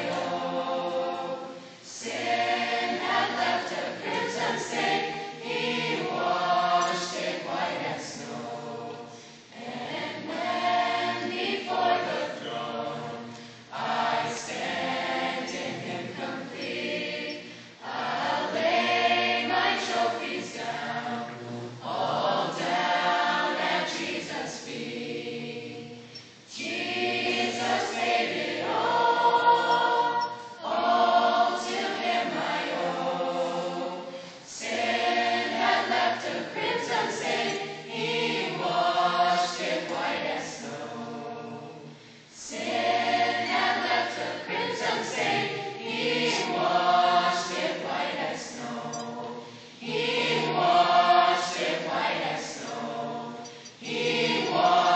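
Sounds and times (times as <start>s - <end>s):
mixed choir singing: 0.0s - 54.9s.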